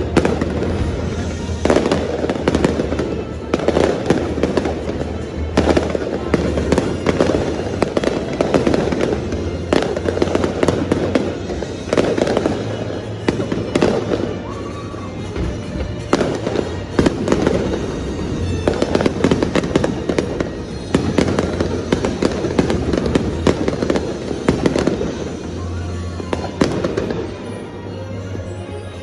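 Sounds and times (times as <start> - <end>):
fireworks bangs and crackles: 0.0 - 28.4
show music over loudspeakers: 0.0 - 29.0.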